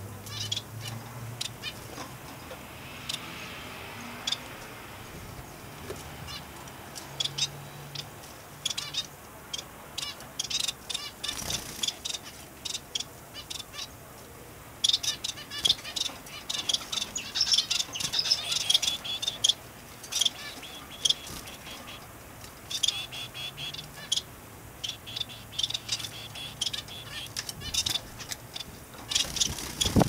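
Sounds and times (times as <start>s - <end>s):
finches chirping: 0.3s - 2.0s, 4.2s - 4.5s, 7.1s - 14.0s, 14.8s - 30.0s.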